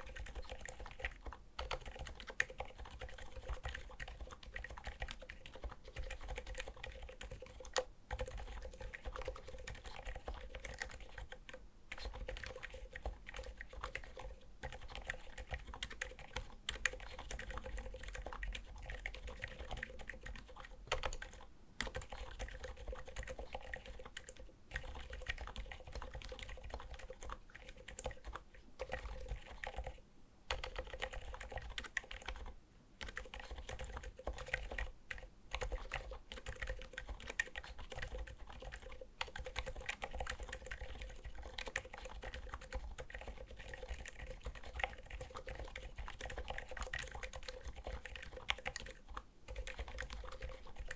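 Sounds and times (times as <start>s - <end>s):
typing on mechanical keyboard: 0.0s - 50.9s.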